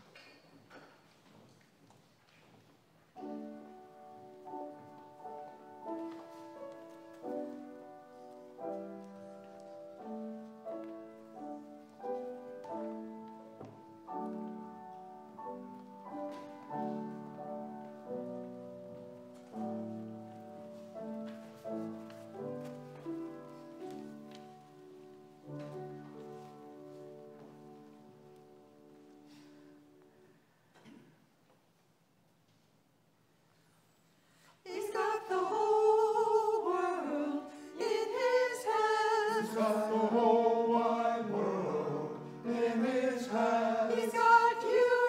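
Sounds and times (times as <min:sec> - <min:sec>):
slow chordal piano music: 0:03.2 - 0:30.4, 0:35.4 - 0:45.0.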